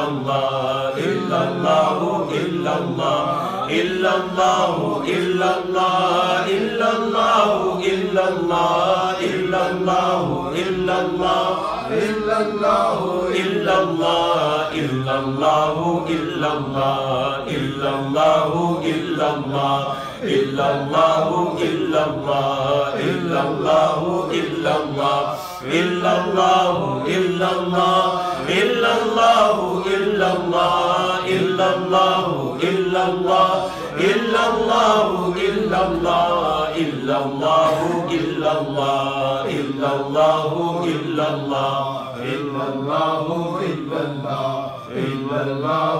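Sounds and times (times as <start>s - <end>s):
man chanting into a microphone: 0.0s - 45.9s.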